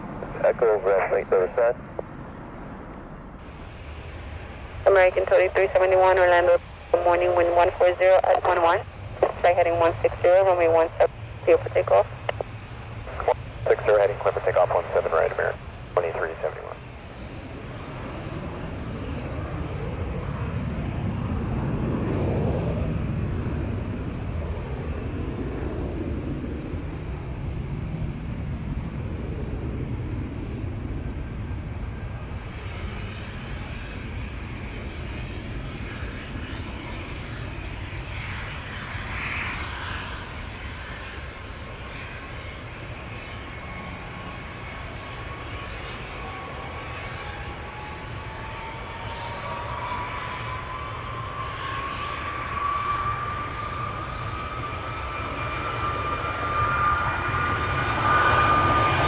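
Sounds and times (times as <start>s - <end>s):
jet airliner engines at takeoff: 0.0s - 59.0s.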